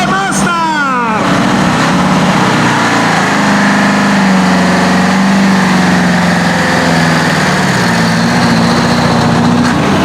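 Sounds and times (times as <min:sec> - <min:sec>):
tractor engine running loud: 0:01.1 - 0:10.0.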